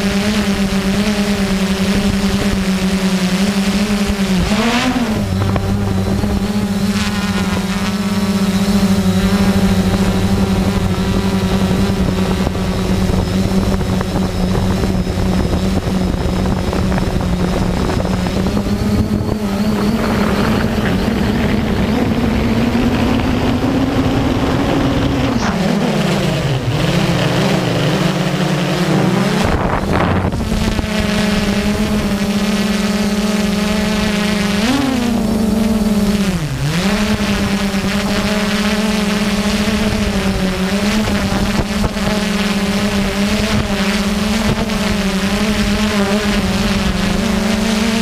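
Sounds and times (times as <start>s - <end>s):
drone propellers humming: 0.0s - 48.0s.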